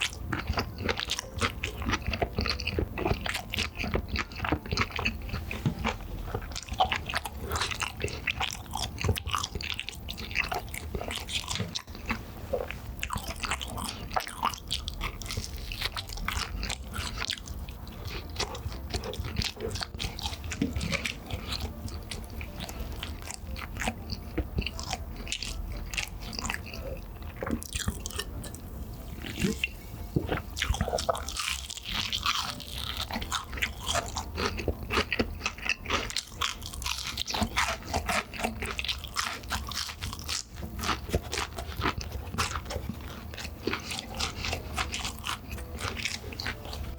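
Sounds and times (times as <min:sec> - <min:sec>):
chewing and crunching pizza: 0:00.0 - 0:46.9.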